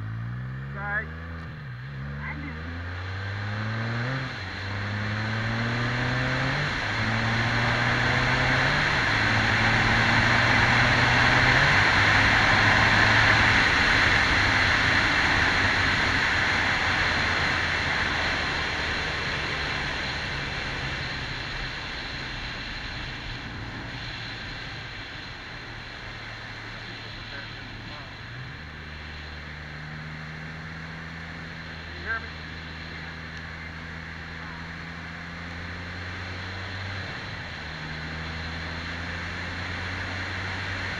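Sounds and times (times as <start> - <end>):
engine accelerating through gears: 0.0 - 40.9.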